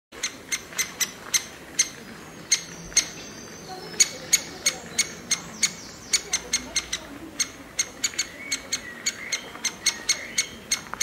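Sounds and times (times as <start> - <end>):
woodpecker chick cheeping: 0.2 - 11.0.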